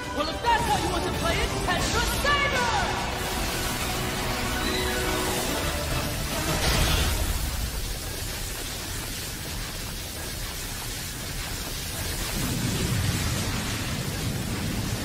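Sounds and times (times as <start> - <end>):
rushing hiss: 1.8 - 15.0.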